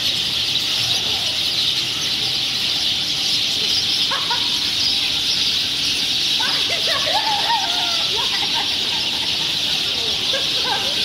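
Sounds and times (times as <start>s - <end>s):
cicada chorus buzzing: 0.0s - 11.0s.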